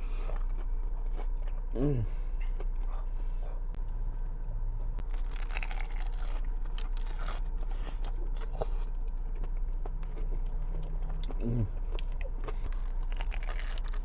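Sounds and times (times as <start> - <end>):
crunching and chewing food: 0.0 - 14.0
low hum: 0.0 - 14.0.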